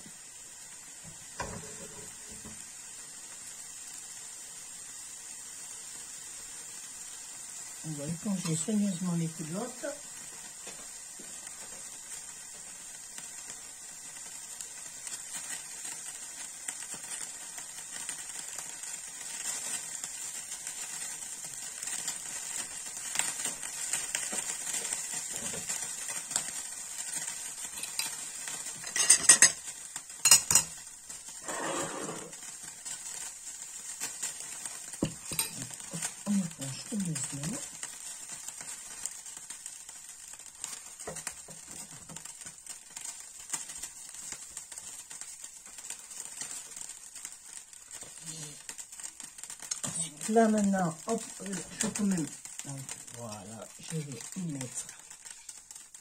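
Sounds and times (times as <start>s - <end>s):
oil sizzling in frying pan: 0.0s - 56.0s.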